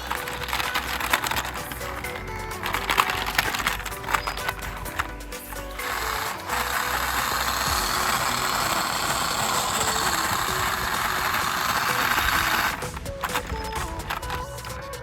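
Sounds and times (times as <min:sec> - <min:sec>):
background music: 0:00.0 - 0:15.0
toy car motor whirring: 0:00.0 - 0:15.0.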